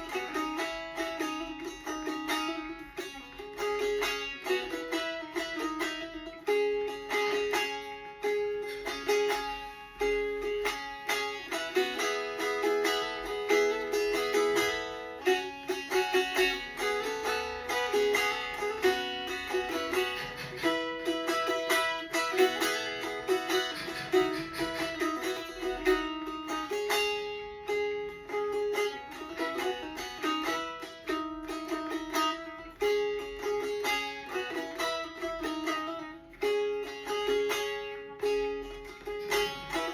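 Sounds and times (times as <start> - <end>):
plucked string instrument melody: 0.0 - 39.9.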